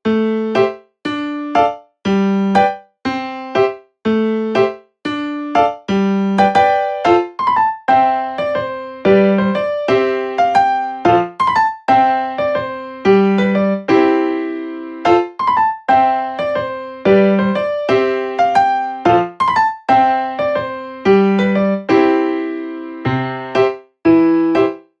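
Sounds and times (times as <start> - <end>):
piano playing chords: 0.0 - 25.0.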